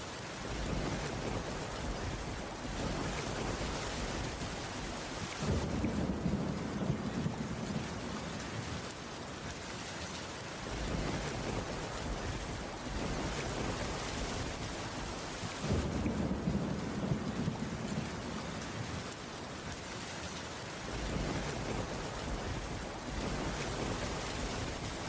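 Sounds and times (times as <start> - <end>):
rain on a wooden roof: 0.0 - 25.0.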